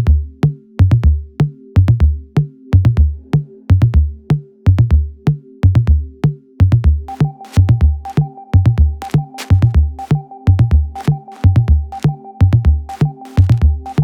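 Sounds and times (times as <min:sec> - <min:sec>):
drum machine kick beat: 0:00.0 - 0:14.0.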